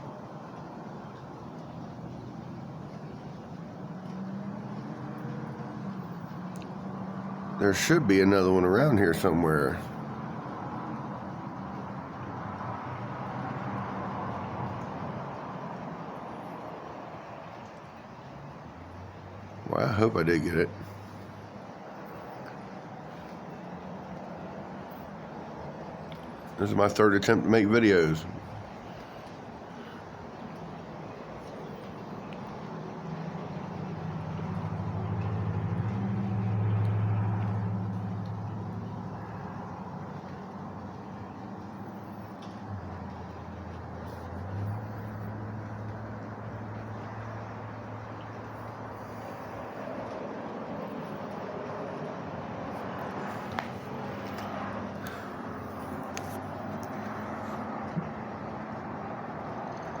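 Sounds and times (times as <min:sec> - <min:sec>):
vehicle passing by: 0:00.0 - 1:00.0.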